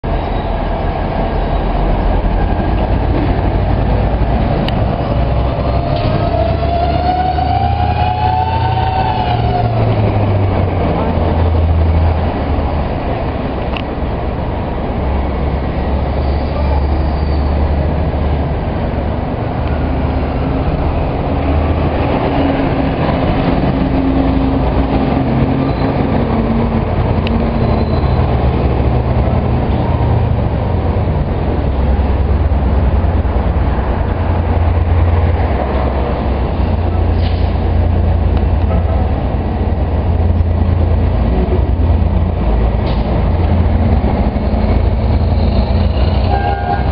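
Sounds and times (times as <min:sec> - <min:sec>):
bus engine low rumble: 0:00.0 - 0:46.9.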